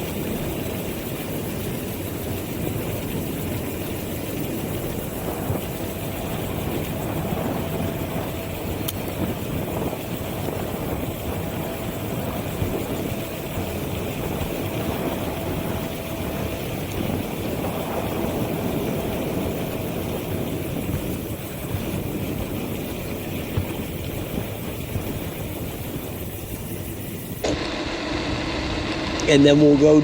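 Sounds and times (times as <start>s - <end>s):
electric motor whine: 0.0s - 30.0s
wind and tyres rumbling: 0.0s - 30.0s.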